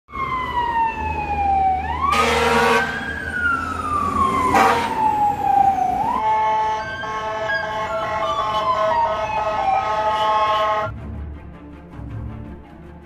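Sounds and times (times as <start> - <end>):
short loud siren blasts: 0.1 - 10.9
siren wailing: 0.1 - 10.9.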